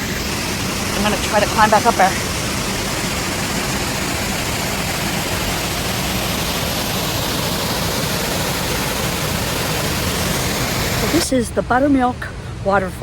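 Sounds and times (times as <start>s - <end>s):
waterfall roaring: 0.0s - 12.4s.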